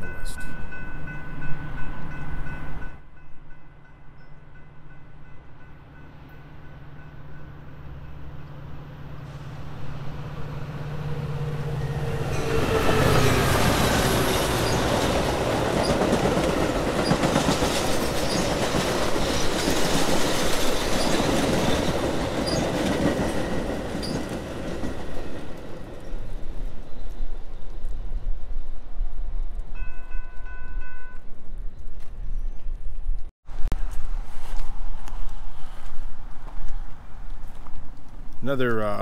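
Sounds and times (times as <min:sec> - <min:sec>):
train passing rumble: 0:00.0 - 0:38.5.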